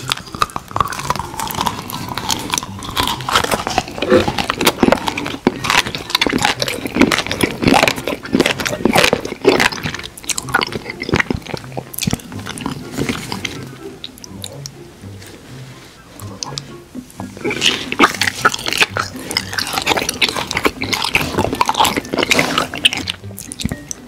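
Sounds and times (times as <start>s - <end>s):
mouth clicks: 0.0s - 15.4s, 16.0s - 24.0s
close-miked crunchy chewing: 0.0s - 16.7s, 17.4s - 24.0s.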